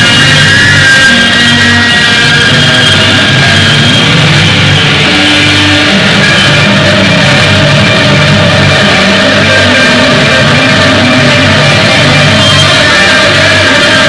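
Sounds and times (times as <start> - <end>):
rock music with distorted guitar: 0.0 - 14.0.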